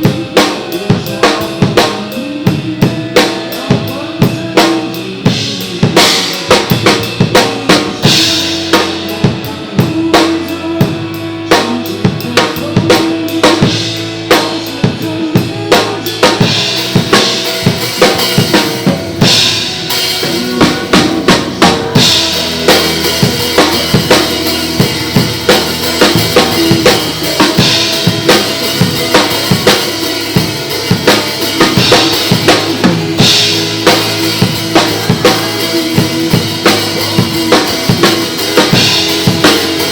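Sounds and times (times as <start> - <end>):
drum kit playing: 0.0 - 39.9
recorded backing track: 0.0 - 39.9.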